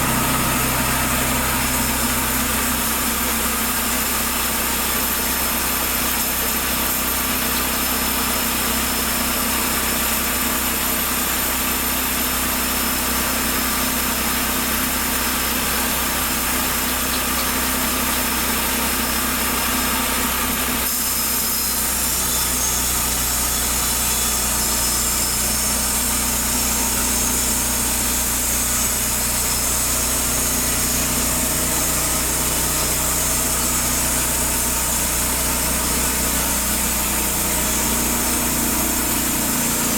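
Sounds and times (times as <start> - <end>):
sawmill petrol engine running: 0.0 - 39.9.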